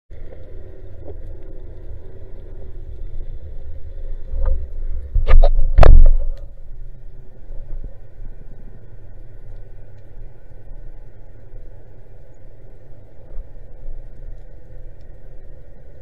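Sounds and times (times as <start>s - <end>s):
muffled underwater water rumble: 0.1s - 16.0s.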